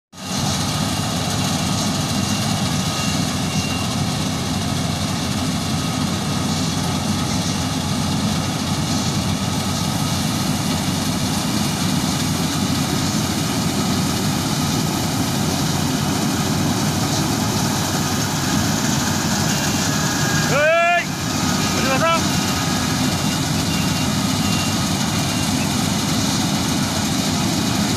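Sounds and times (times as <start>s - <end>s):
combine harvester drone: 0.2s - 27.9s.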